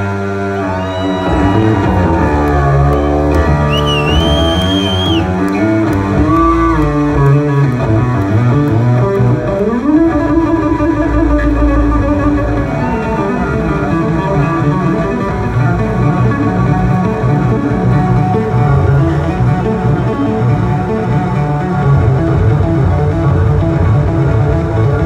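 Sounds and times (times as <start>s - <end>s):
electric bass notes: 0.0s - 25.0s.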